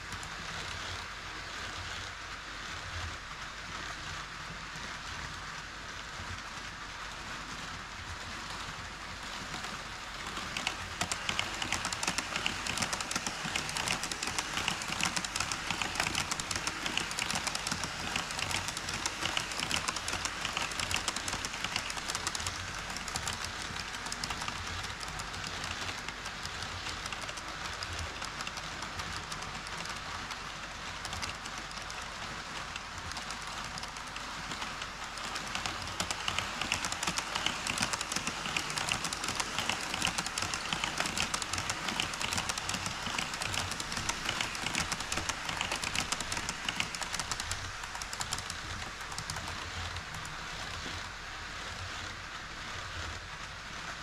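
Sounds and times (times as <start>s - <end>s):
model train wheels clattering: 6.2s - 54.0s.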